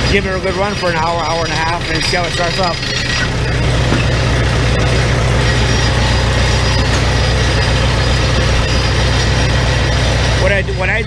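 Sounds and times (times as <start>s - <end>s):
tractor engine running steadily: 0.0s - 11.0s.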